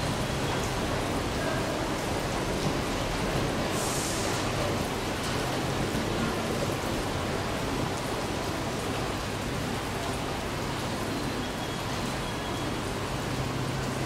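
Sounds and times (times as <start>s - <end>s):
heavy rain: 0.0s - 14.0s.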